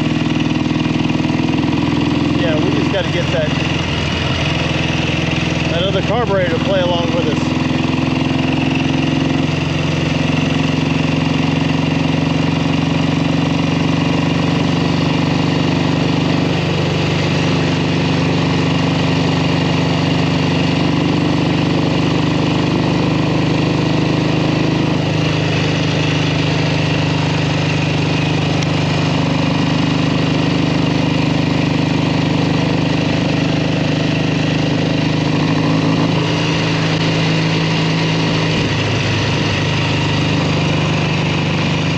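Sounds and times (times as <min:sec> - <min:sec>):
motorcycle engine putting: 0:00.0 - 0:41.9.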